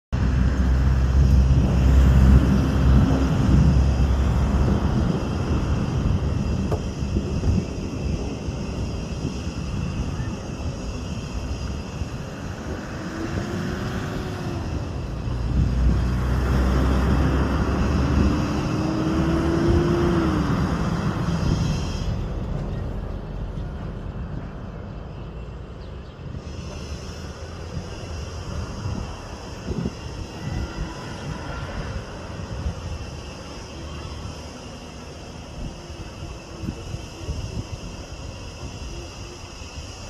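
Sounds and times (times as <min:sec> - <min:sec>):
vehicle engine rumbling: 0:00.1 - 0:40.0.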